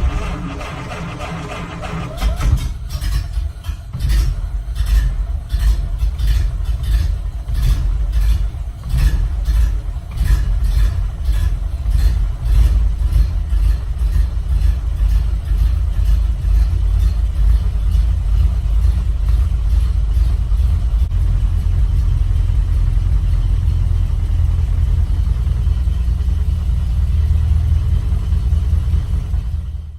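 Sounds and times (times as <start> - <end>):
car engine rumbling: 0.0 - 29.9.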